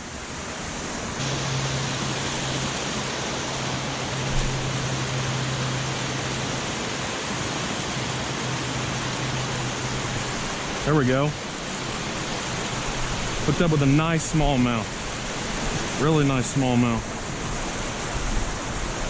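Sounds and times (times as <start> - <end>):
steady low hum: 0.9 - 19.0
water pouring over dam: 1.2 - 19.0.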